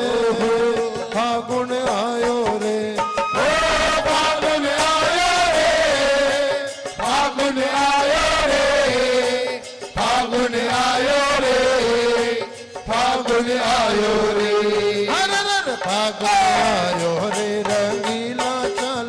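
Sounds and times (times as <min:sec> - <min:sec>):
hand drums: 0:00.0 - 0:19.0.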